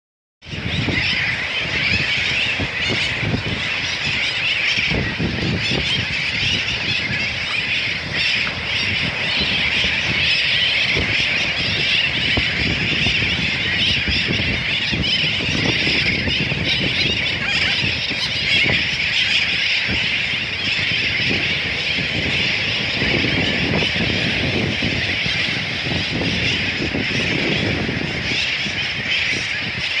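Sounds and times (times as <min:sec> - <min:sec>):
birds squawking in chorus: 0:00.4 - 0:30.0
surf rumbling: 0:00.4 - 0:30.0
wind on microphone: 0:00.4 - 0:30.0.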